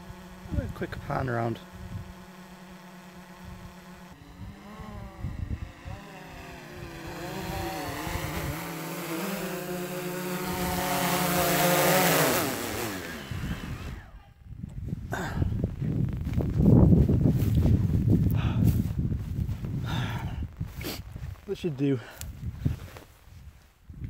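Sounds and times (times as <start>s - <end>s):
drone propellers buzzing: 0.0s - 14.4s, 15.0s - 20.9s.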